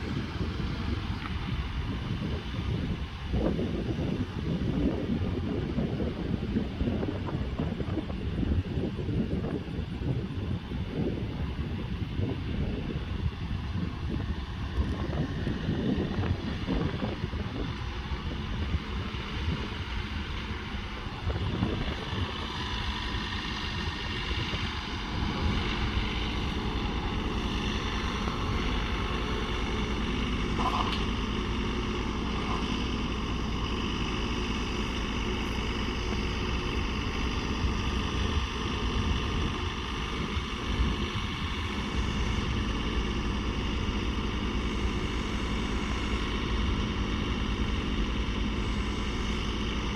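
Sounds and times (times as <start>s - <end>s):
tractor diesel engine running: 0.0s - 49.9s
wind buffeting microphone: 0.0s - 49.9s.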